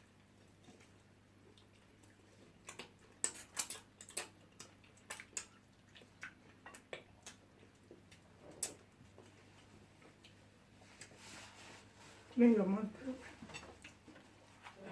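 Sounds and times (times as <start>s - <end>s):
people chewing and lip smacking: 0.0s - 11.2s, 13.4s - 14.9s.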